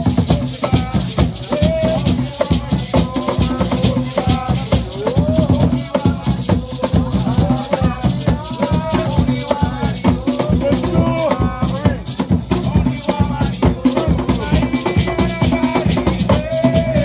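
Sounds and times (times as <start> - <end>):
gourd shakers rattling: 0.0 - 17.0
hand drums fast rhythm: 0.0 - 17.0
person singing: 0.0 - 17.0.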